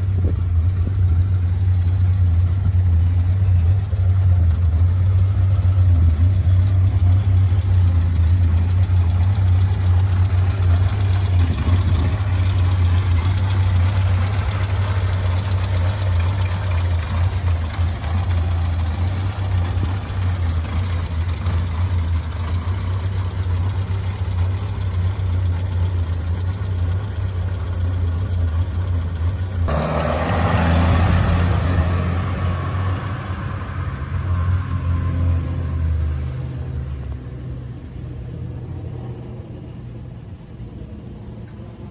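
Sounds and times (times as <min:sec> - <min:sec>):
van engine idling and revving: 0:00.0 - 0:41.9.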